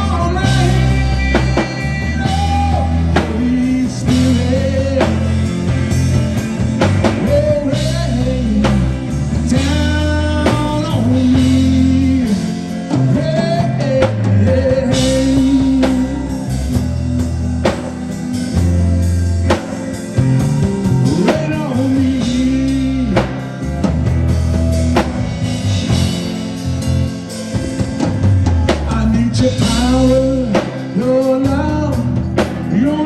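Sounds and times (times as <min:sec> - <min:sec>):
drum kit beat: 0:00.0 - 0:33.0
gospel band music: 0:00.0 - 0:33.0.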